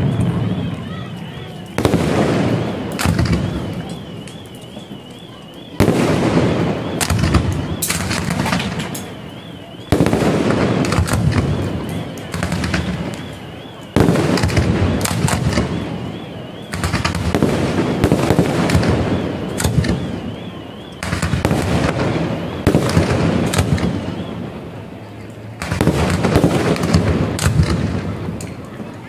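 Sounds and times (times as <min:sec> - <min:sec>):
firework shell detonations: 0:00.0 - 0:24.9, 0:25.6 - 0:28.9
firework crackling: 0:00.0 - 0:29.0.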